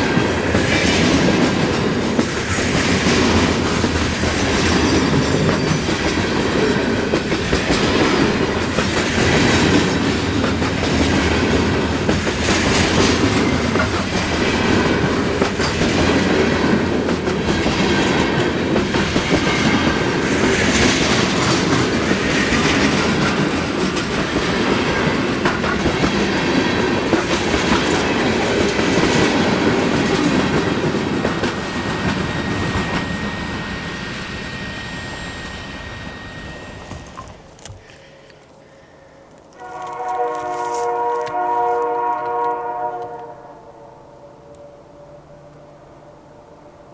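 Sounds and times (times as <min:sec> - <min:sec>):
train wheels clacking on rails: 0:00.0 - 0:38.4.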